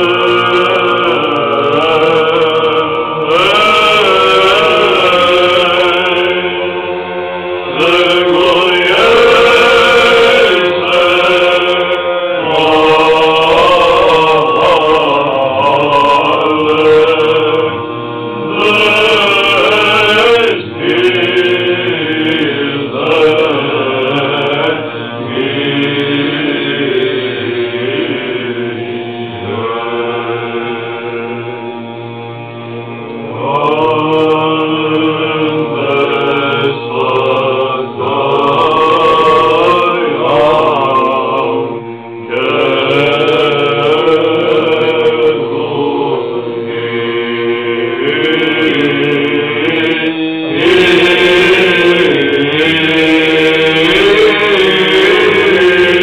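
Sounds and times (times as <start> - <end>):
held drone note: 0.0 - 56.0
voices chanting without instruments: 0.0 - 56.0.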